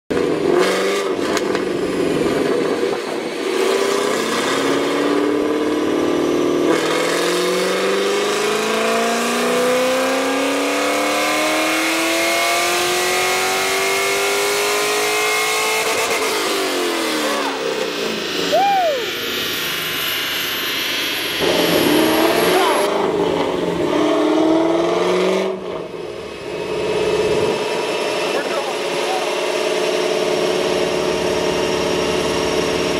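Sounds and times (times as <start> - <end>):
car engine revving on a dyno: 0.1 - 32.9.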